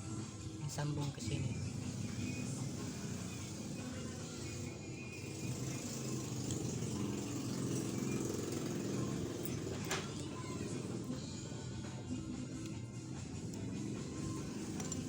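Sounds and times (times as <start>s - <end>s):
low steady background music: 0.0s - 15.0s.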